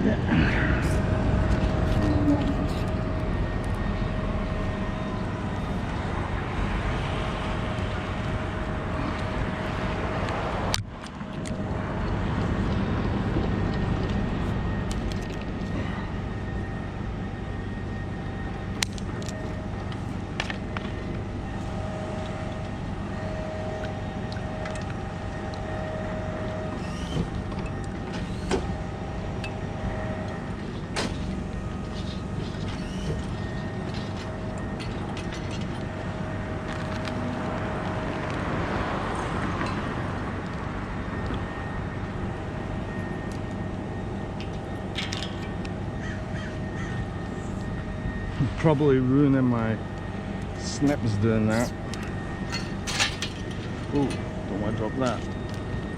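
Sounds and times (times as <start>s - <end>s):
truck engine running: 0.0s - 46.0s
faint whine: 0.0s - 55.9s.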